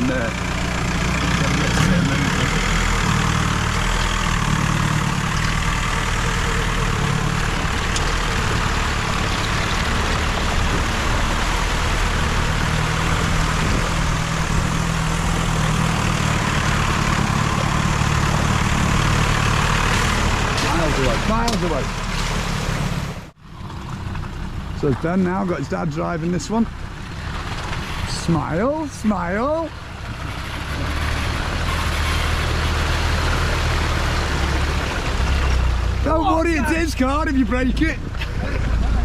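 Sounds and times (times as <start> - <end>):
engine rumbling at low revs: 0.0 - 39.0.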